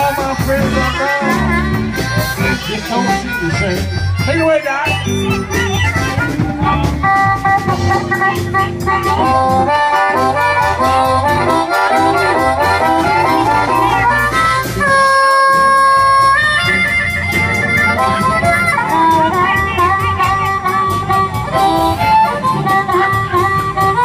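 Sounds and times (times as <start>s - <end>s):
blues band playing: 0.0s - 24.0s
harmonica lead: 0.0s - 24.0s.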